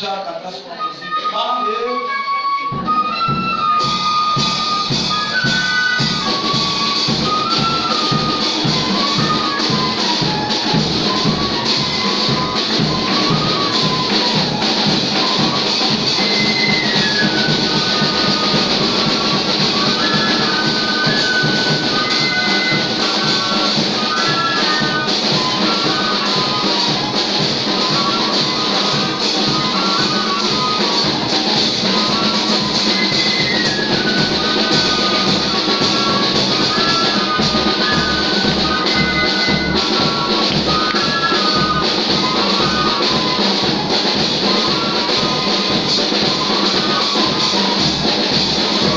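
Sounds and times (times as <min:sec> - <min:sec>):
steady drum beat: 0:02.8 - 0:48.9.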